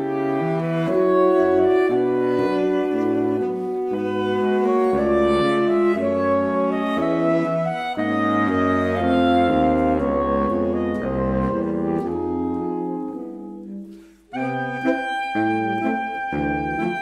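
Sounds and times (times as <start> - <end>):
saxophone quartet playing jazz: 0.0 - 17.0.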